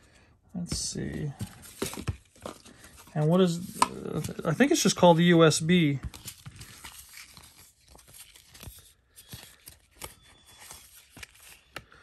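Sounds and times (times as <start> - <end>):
paper rustling and crinkling: 1.0 - 11.9.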